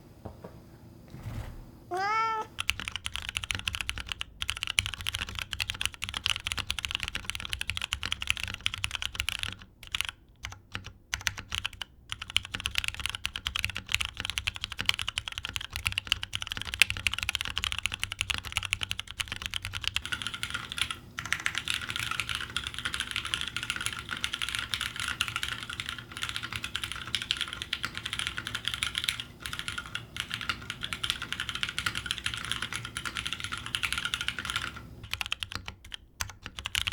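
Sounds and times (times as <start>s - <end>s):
typing on mechanical keyboard: 2.5s - 36.9s.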